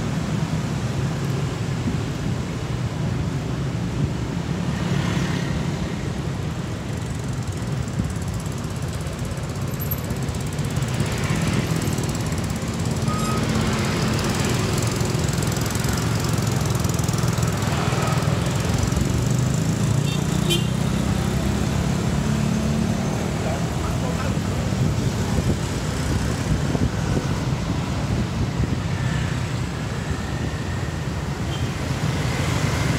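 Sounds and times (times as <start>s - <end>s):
scooters and cars passing: 0.0s - 32.9s.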